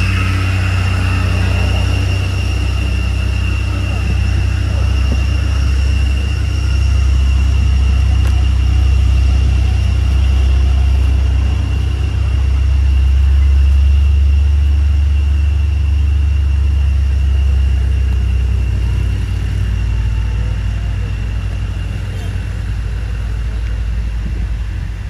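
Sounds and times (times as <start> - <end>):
motor vehicle rumble: 0.0 - 25.0.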